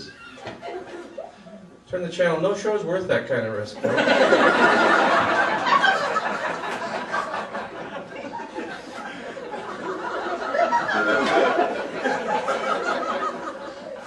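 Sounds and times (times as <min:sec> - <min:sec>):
audience laughing: 0:00.0 - 0:01.6, 0:03.8 - 0:14.0.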